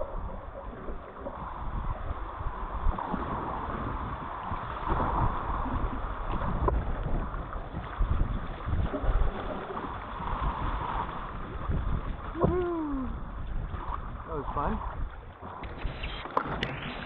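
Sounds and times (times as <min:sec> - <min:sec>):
water rushing and gurgling: 0:00.0 - 0:17.0
wind buffeting on microphone: 0:00.0 - 0:17.0.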